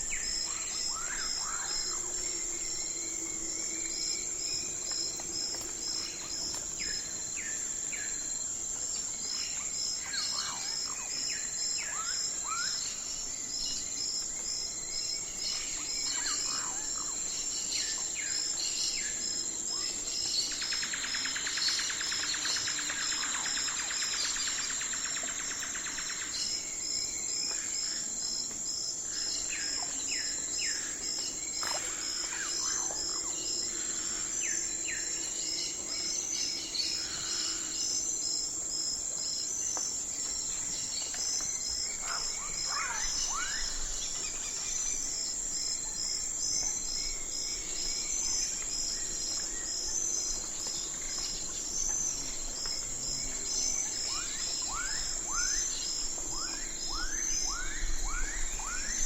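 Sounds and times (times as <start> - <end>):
insect chirping pulse: 0.0 - 59.0
insects droning: 0.0 - 59.0.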